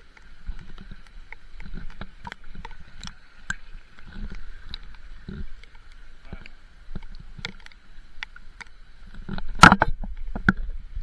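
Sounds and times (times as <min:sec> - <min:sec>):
stream water splashing over rocks: 0:00.0 - 0:11.0.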